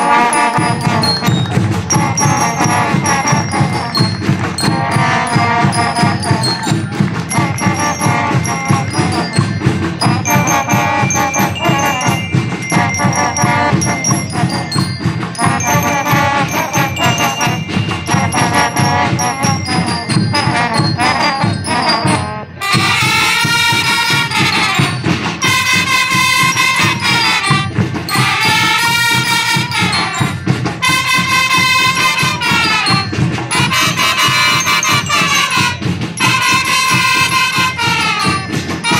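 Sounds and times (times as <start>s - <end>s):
brass long held notes: 0.0s - 6.6s, 10.0s - 14.7s, 15.4s - 38.9s
high bell melody: 0.0s - 38.9s
marching drums: 0.0s - 38.9s.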